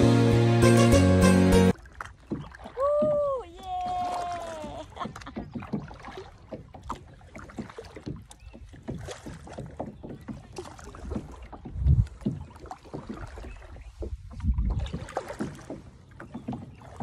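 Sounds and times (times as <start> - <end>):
paddle splashing in water: 1.5 - 17.0
water sloshing against hull: 1.7 - 17.0.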